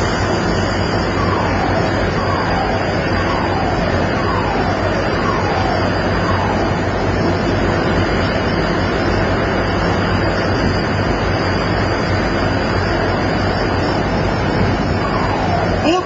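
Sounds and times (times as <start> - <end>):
low machinery hum: 0.0 - 16.0
sea noise: 0.0 - 16.0.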